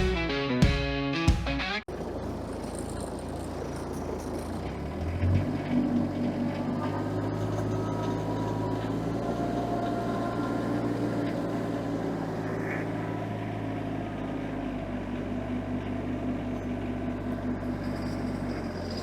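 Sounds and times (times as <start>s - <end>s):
engine running steadily: 1.9s - 19.0s.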